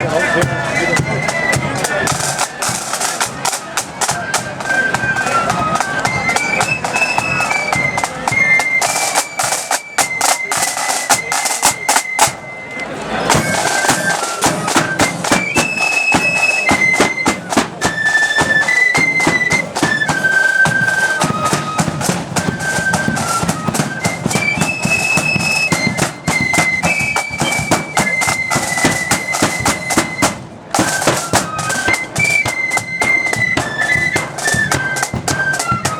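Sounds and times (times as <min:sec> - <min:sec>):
snare drumming: 0:00.0 - 0:12.4, 0:13.2 - 0:35.9
flutes playing melody: 0:00.0 - 0:35.9.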